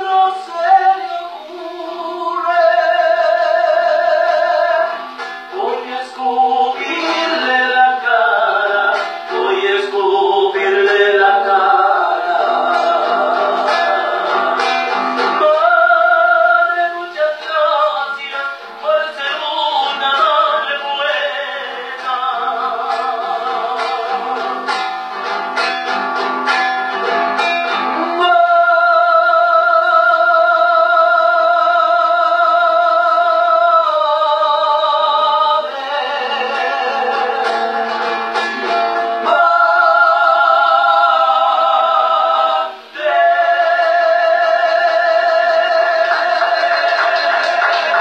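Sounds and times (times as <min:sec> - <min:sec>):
person singing with vibrato: 0:00.0 - 0:48.0
strummed guitar: 0:00.0 - 0:48.0.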